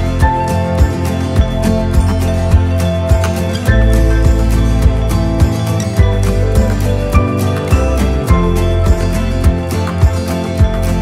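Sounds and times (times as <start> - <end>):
soft chords: 0.0 - 11.0.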